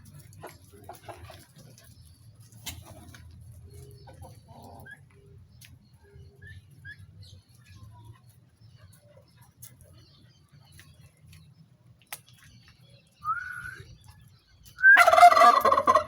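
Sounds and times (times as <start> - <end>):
turkey chicks peeping: 0.0 - 16.0.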